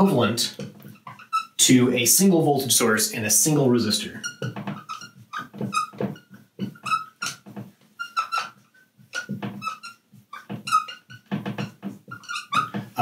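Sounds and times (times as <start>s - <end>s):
marker squeaking on a whiteboard: 0.0s - 2.4s, 3.2s - 13.0s.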